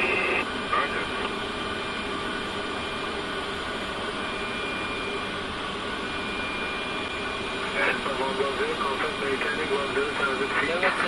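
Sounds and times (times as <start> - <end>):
airflow rush in cockpit: 0.0 - 11.0
engine and air-conditioning hum: 0.0 - 11.0.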